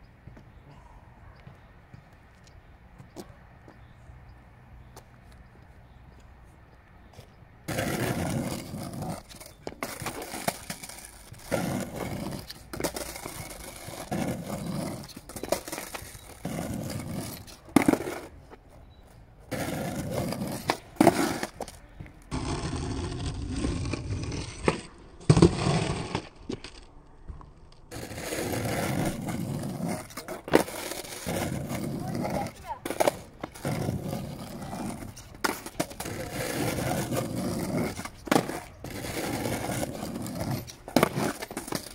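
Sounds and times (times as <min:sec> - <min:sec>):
skateboard wheels rolling on asphalt: 0:01.4 - 0:41.9
skateboard clacking on ground: 0:07.2 - 0:41.9.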